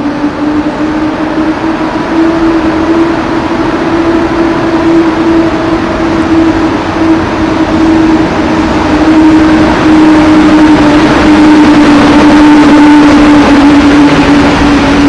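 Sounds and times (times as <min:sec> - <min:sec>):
electric locomotive humming tone: 0:00.0 - 0:15.0
train wheels rumbling: 0:00.0 - 0:15.0.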